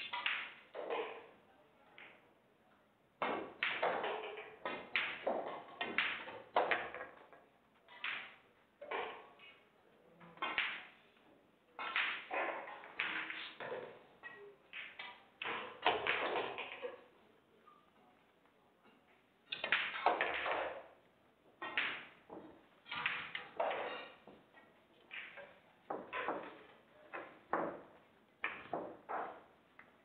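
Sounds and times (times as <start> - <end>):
pool balls clicking and knocking: 0.0 - 30.0.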